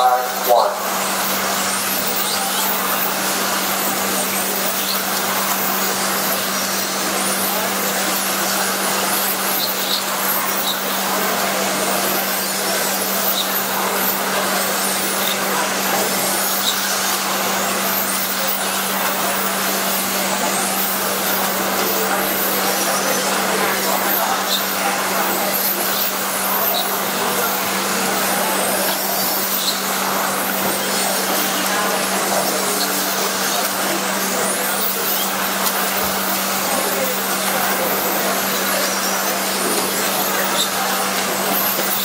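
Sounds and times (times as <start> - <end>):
small motors whining: 0.0 - 42.0.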